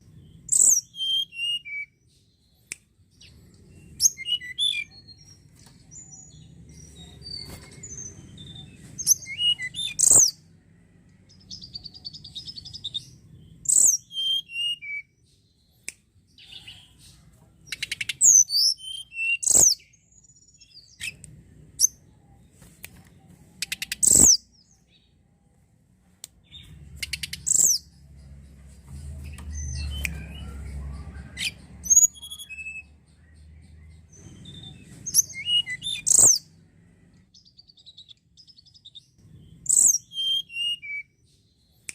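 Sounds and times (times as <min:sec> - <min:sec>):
songbird singing sharp chirps: 0:00.0 - 0:41.9.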